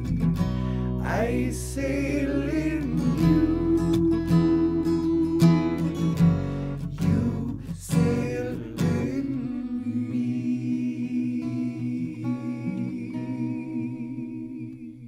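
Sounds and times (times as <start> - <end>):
acoustic guitar strummed chords: 0.0 - 14.9
man singing: 1.0 - 14.1.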